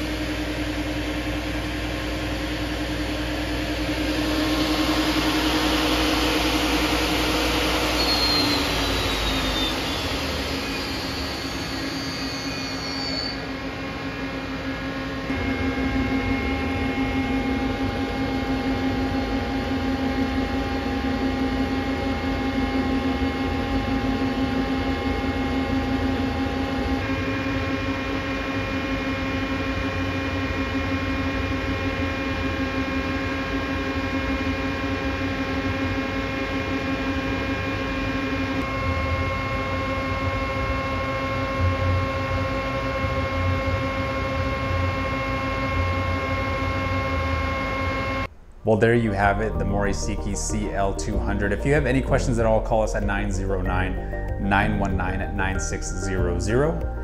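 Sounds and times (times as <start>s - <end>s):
lathe humming with steady tones: 0.0s - 48.7s.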